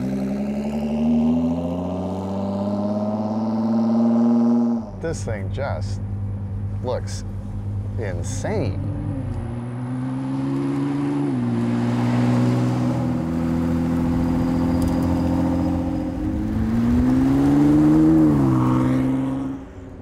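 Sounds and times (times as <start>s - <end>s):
car engine running: 1.9s - 20.0s.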